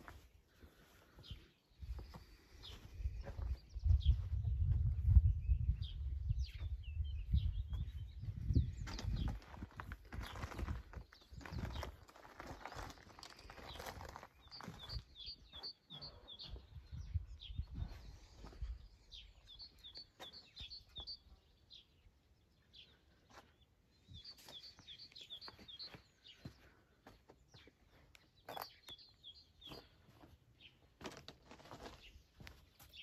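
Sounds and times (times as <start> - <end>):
songbird singing: 0.7 - 33.0.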